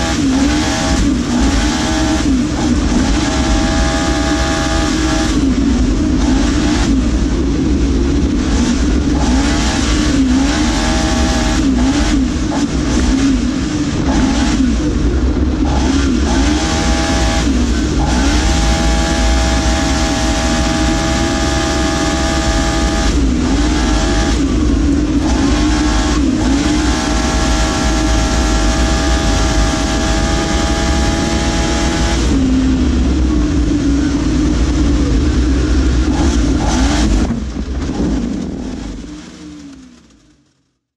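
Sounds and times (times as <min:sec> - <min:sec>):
race engine running hard: 0:00.0 - 0:40.5.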